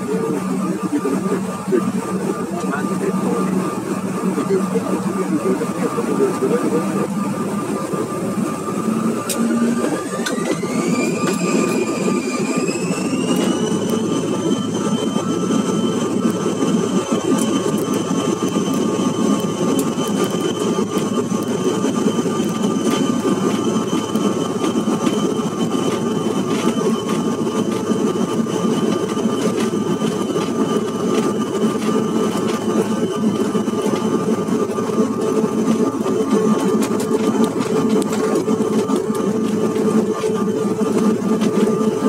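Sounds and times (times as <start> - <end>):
jet engine whine: 0.0 - 42.0
low rumble of wheels: 4.3 - 42.0.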